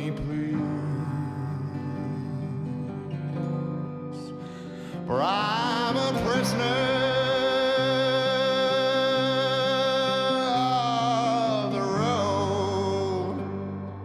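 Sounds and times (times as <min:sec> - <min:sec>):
man singing slow song: 0:00.0 - 0:14.0.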